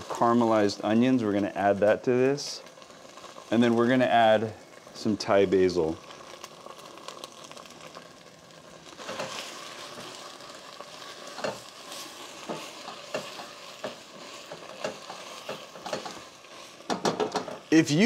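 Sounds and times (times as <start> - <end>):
curry paste sizzling in a pan: 0.0 - 18.0
stirring strokes in a pan: 0.0 - 18.0.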